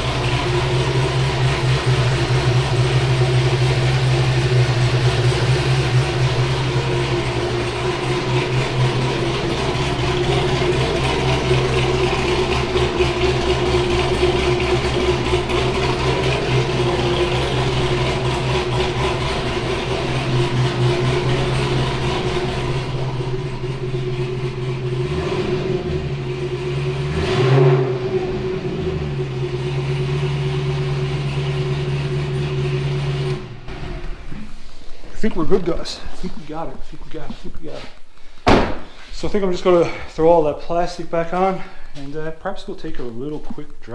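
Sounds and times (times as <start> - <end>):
car engine idling: 0.0 - 43.9
engine throttle blip: 0.0 - 43.9.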